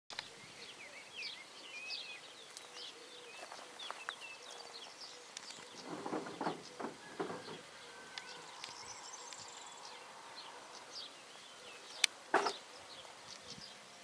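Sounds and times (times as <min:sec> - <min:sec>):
outdoor background hiss: 0:00.1 - 0:14.0
small birds chirping: 0:00.1 - 0:14.0.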